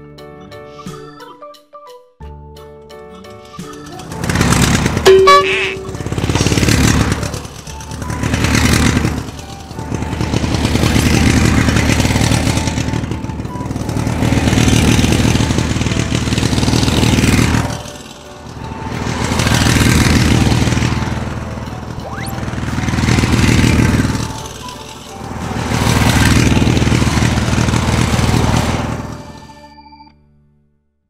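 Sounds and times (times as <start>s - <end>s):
toy motorcycle engine sound effect: 3.6s - 29.7s.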